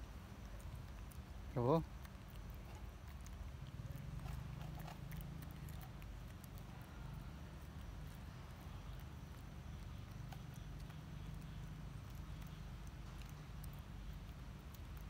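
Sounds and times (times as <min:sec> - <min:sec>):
low outdoor background rumble: 0:00.0 - 0:15.0
monkeys chewing: 0:00.0 - 0:15.0.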